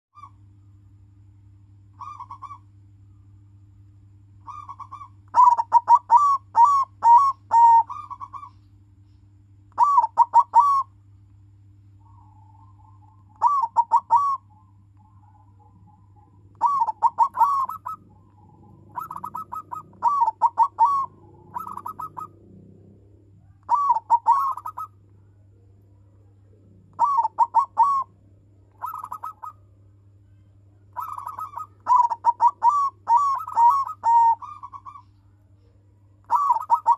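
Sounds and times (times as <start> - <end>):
steady low hum: 0.1 - 36.9
dove cooing: 2.0 - 2.6, 4.4 - 8.6, 9.8 - 11.0, 12.0 - 29.7, 30.8 - 36.9.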